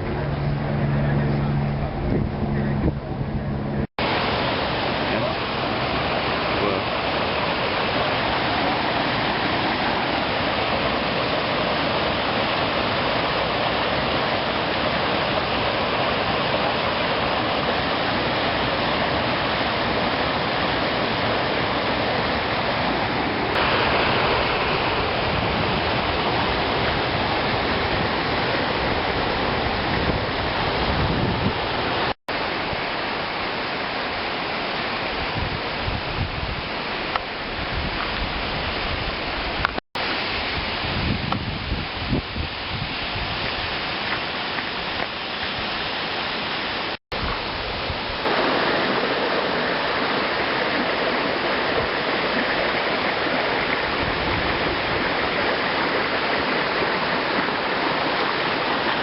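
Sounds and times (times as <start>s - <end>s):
rushing flowing water: 4.0s - 59.0s.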